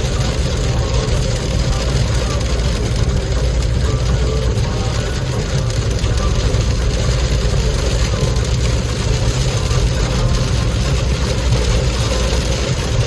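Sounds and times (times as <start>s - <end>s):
engine and road noise rumble: 0.0s - 13.0s
heavy rain on a car: 0.0s - 13.0s.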